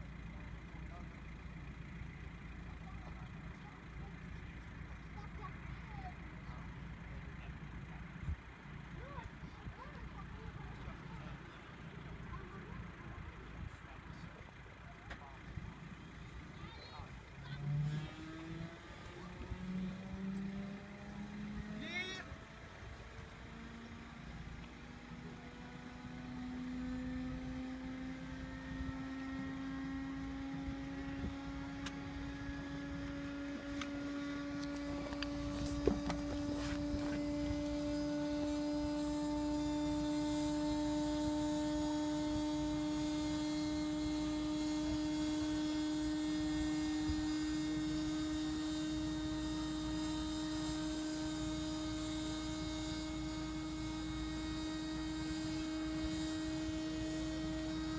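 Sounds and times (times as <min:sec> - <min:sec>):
electric starter whine: 0:09.0 - 0:57.9.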